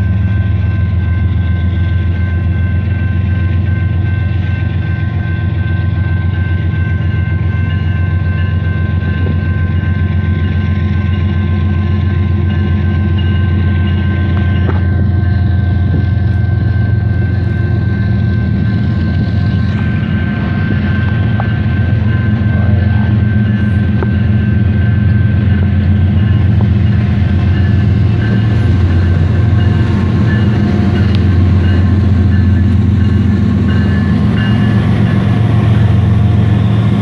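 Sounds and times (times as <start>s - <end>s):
diesel locomotive engines droning: 0.0s - 37.0s.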